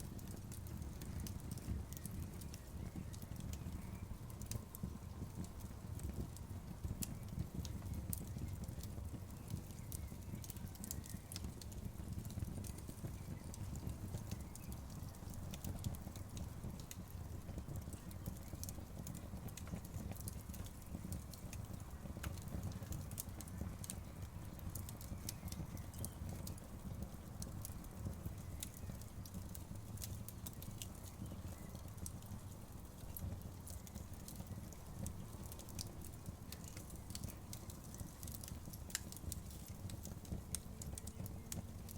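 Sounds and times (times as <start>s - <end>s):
burning wood popping and snapping: 0.0s - 41.9s
low rumble of flames: 0.0s - 41.9s.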